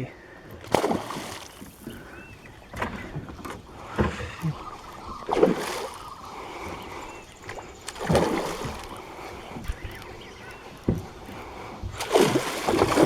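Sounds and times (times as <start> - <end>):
water lapping: 0.0 - 13.0
knocks and splashes around boat: 0.2 - 13.0.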